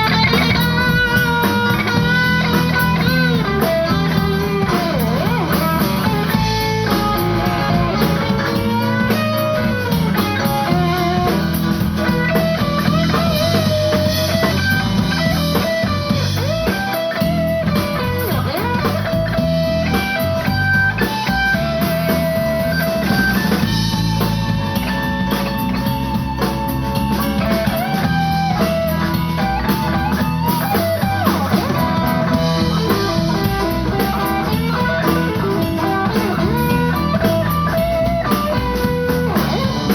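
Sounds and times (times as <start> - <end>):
blues band playing: 0.0 - 39.9
electric guitar with bent notes: 0.0 - 39.9.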